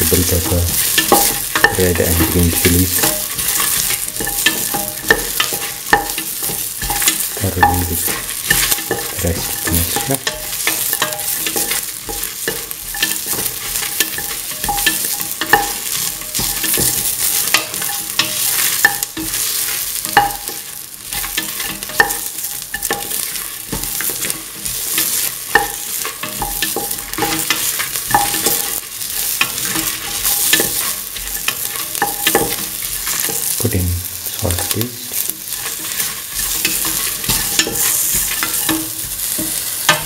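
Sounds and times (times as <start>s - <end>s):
spatula scraping and knocking pan: 0.0s - 40.0s
vegetables sizzling in oil: 0.0s - 40.0s.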